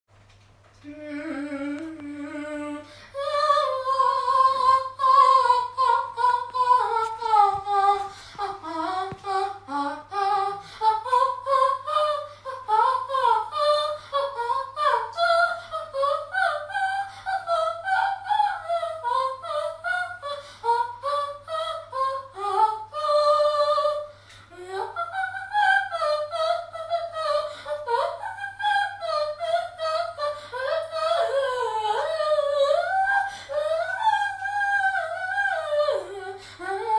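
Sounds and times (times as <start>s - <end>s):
high voice singing wordless melody: 0.8s - 36.9s.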